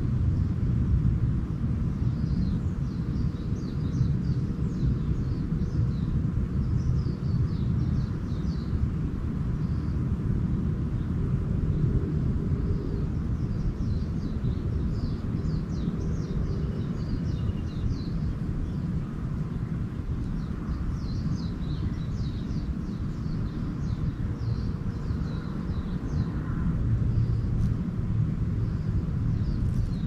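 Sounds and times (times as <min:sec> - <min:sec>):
low outdoor rumble: 0:00.0 - 0:30.0
small birds twittering: 0:01.5 - 0:30.0.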